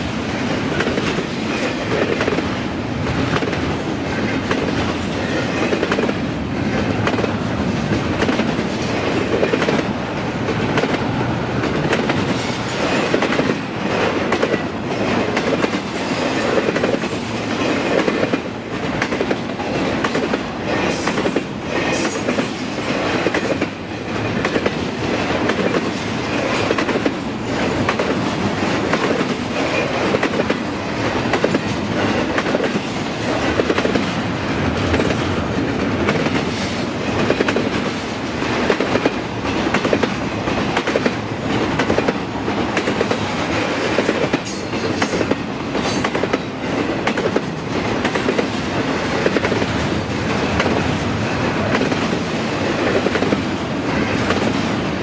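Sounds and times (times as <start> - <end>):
train cars rumbling past: 0.0 - 55.0
wheels clicking over rail joints: 0.4 - 55.0.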